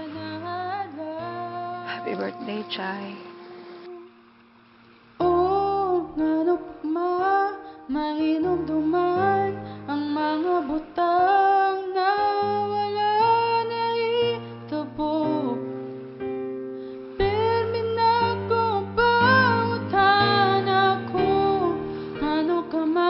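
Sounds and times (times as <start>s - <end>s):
woman singing slow gentle song: 0.0s - 4.4s, 5.2s - 16.0s, 17.1s - 23.0s.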